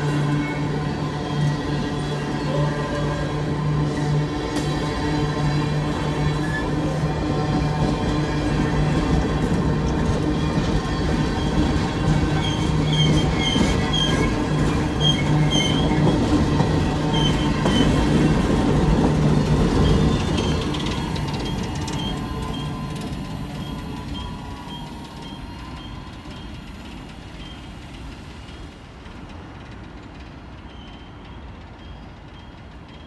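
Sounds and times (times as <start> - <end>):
freight train cars rolling past: 0.0 - 33.0.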